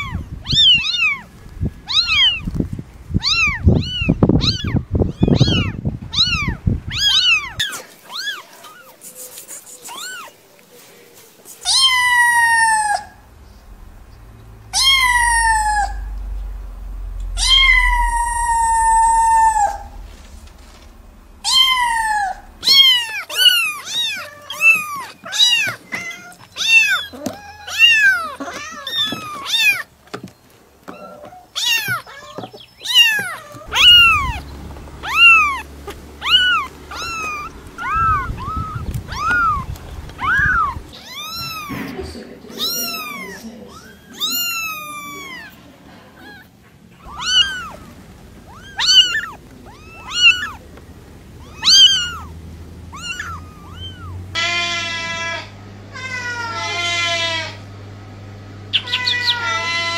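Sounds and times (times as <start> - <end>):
kittens meowing: 0.0 - 10.4, 11.6 - 30.2, 30.8 - 57.7, 58.7 - 59.9.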